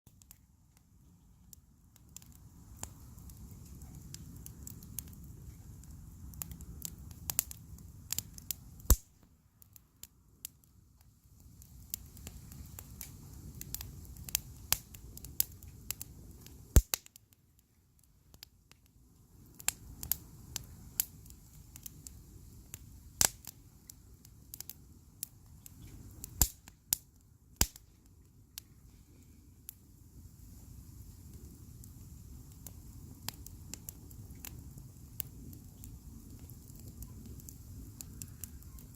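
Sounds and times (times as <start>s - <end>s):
bonfire crackling and popping: 0.1s - 38.9s
low fire rumble: 0.1s - 38.9s.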